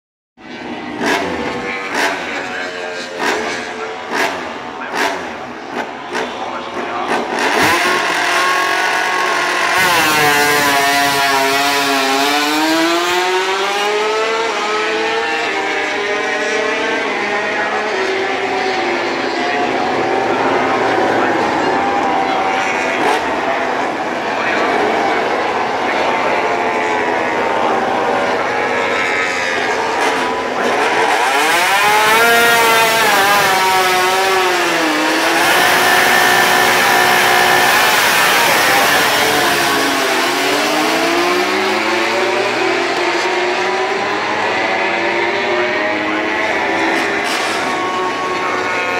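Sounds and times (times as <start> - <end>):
racing motorcycle engines passing: 0.4 - 48.9.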